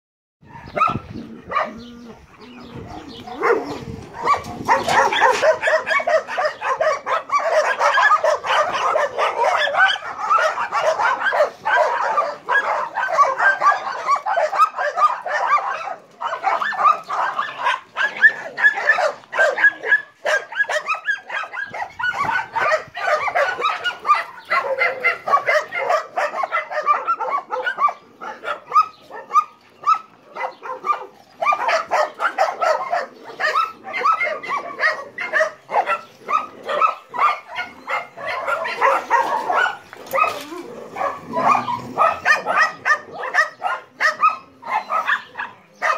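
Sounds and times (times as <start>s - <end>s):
many dogs barking: 0.4s - 45.9s.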